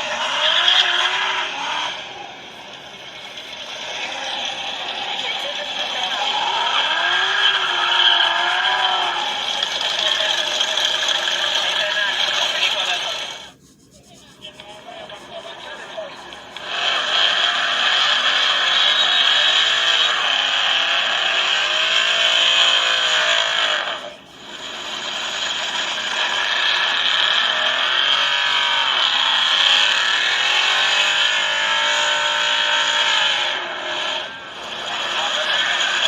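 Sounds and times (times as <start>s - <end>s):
car engine revving: 0.0s - 13.6s, 14.6s - 36.0s.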